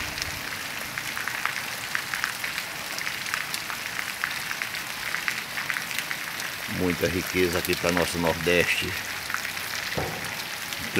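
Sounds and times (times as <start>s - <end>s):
steady rain: 0.0s - 10.9s.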